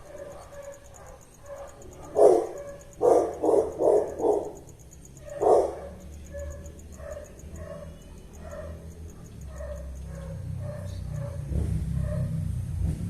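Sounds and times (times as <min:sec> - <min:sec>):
dog barking: 0:00.0 - 0:12.4.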